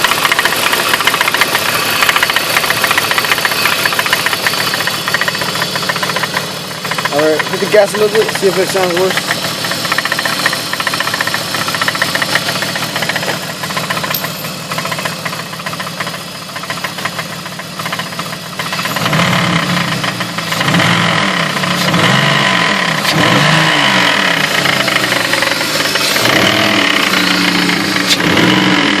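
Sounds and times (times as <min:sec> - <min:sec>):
car engine idling and revving: 0:00.0 - 0:29.0
fast knocking from engine: 0:00.0 - 0:29.0.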